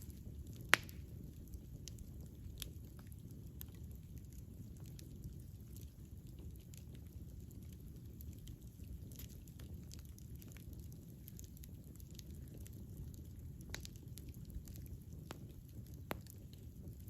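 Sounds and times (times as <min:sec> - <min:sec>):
fire crackles and pops: 0:00.0 - 0:17.0
wood fire rushing flame: 0:00.0 - 0:17.0.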